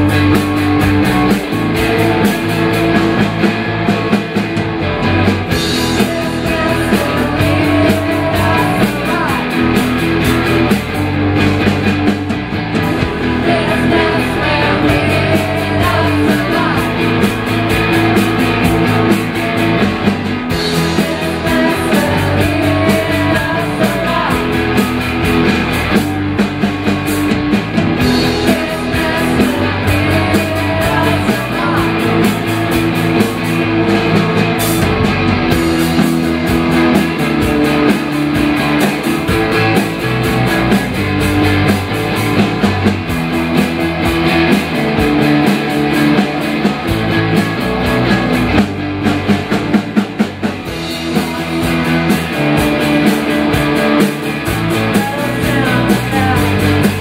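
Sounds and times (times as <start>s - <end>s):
drum kit beat: 0.0s - 57.0s
electric guitars: 0.0s - 57.0s.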